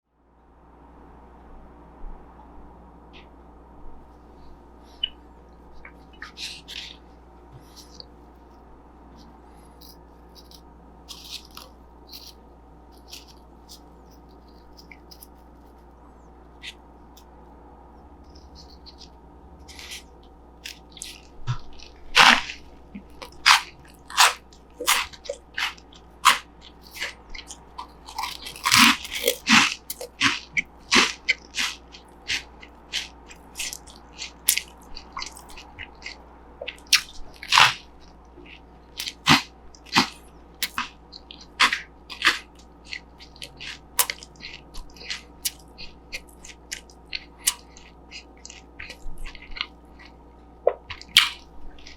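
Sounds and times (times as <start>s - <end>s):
crunching and chewing corn puffs: 4.8s - 17.4s, 18.0s - 51.9s.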